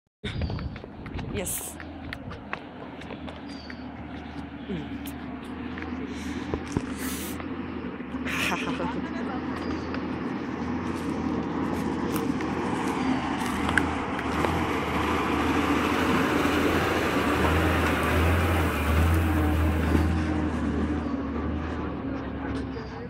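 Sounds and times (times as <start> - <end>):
bus diesel engine under load: 0.2 - 23.0.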